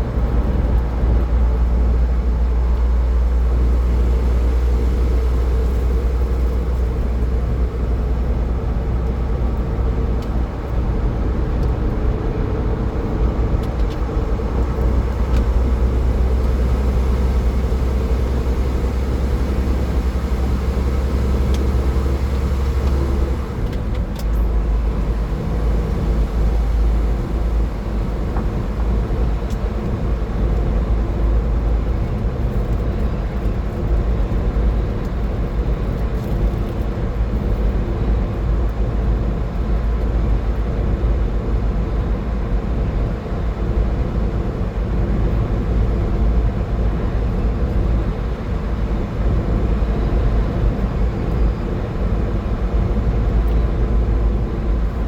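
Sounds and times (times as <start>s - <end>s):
faint engine hum: 0.0s - 55.0s
road and tyre noise: 0.0s - 55.0s.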